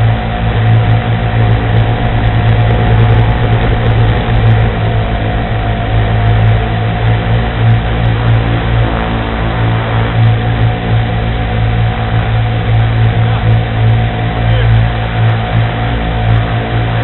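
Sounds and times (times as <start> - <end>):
quadcopter propellers droning: 0.0 - 17.0.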